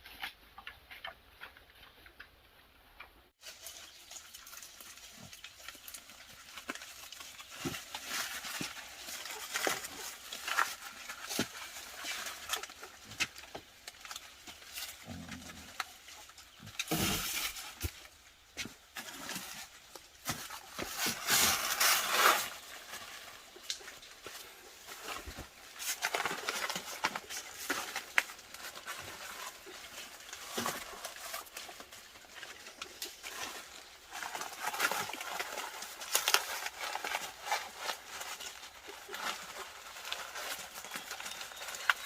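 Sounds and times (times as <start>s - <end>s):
pigs rooting and rustling: 0.0s - 42.0s.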